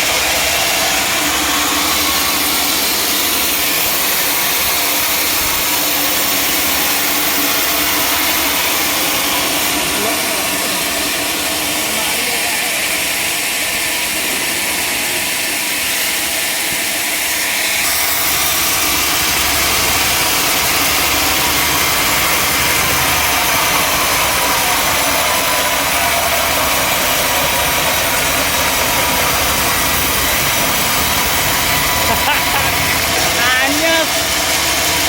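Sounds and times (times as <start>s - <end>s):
sawmill machinery running: 0.0s - 35.0s.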